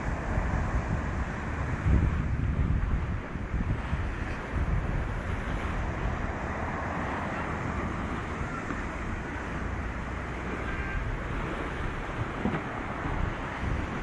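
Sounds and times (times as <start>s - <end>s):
rough sea: 0.0s - 14.0s
wind buffeting microphone: 0.0s - 14.0s.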